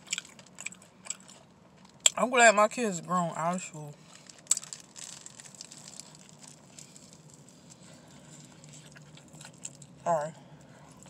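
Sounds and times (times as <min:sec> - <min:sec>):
person chewing: 0:00.0 - 0:02.2, 0:04.0 - 0:11.0.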